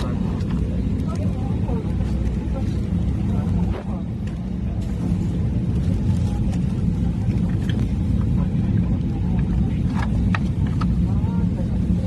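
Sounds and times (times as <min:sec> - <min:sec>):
airliner engine rumble: 0:00.0 - 0:12.0.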